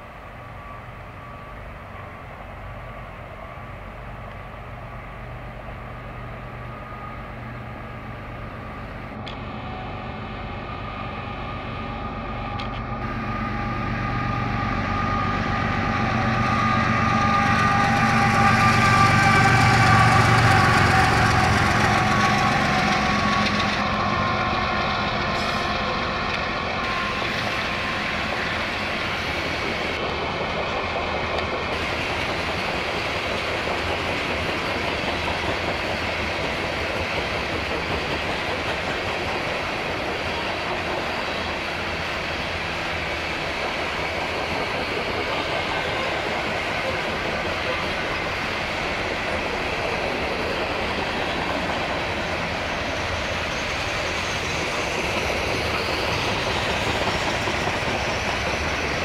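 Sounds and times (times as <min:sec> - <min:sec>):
diesel locomotive engine hum: 0:00.0 - 0:59.0
train cars rumbling on rails: 0:00.0 - 0:59.0.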